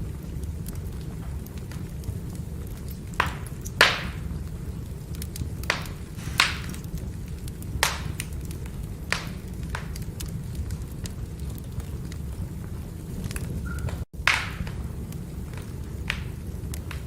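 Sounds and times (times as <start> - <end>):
fire crackling and popping: 0.0 - 17.0
firewood burning with low rumble: 0.0 - 17.0.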